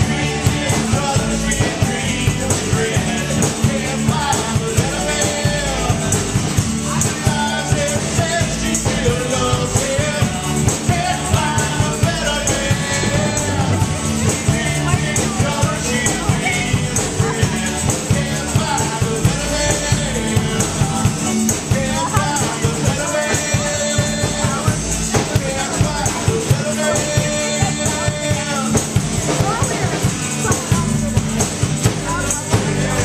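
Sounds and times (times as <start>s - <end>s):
acoustic rock music: 0.0s - 33.0s
strummed acoustic guitar: 0.0s - 33.0s.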